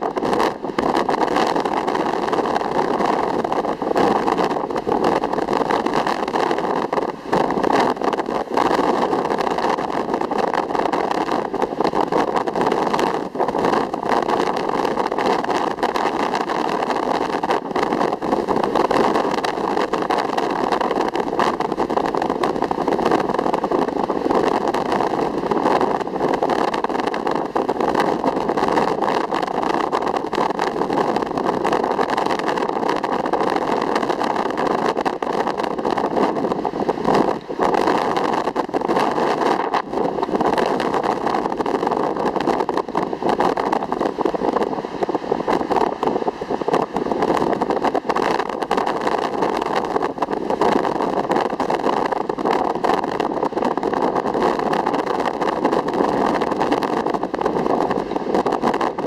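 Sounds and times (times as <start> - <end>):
ocean surf rushing: 0.0 - 59.0.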